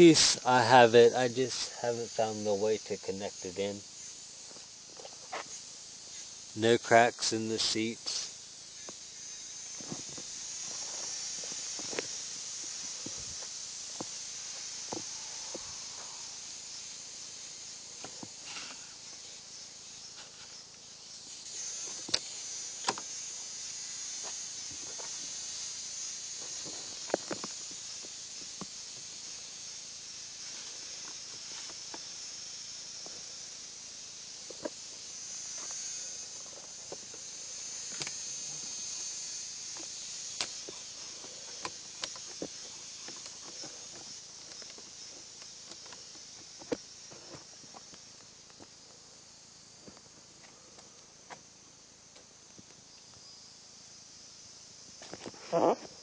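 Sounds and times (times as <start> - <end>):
high-pitched hiss: 0.0 - 56.0.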